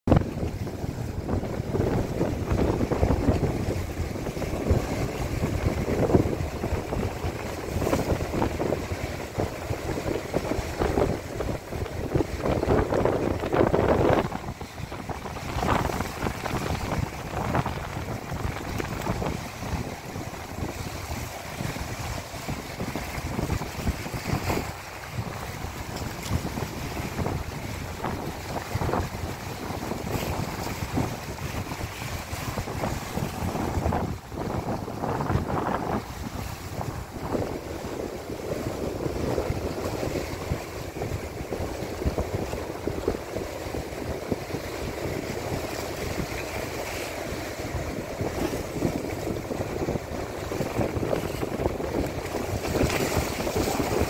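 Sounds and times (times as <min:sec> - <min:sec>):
rough sea surging against seawall: 0:00.1 - 0:54.0
wind buffeting microphone: 0:00.1 - 0:54.0.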